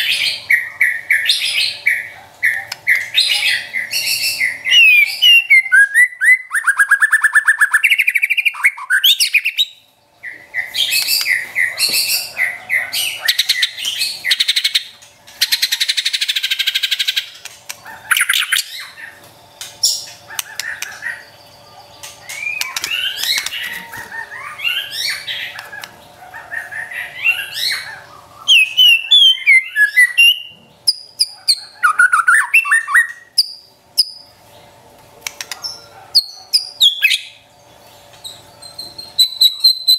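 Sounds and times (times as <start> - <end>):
bird singing: 0.0 - 34.8, 35.4 - 39.9.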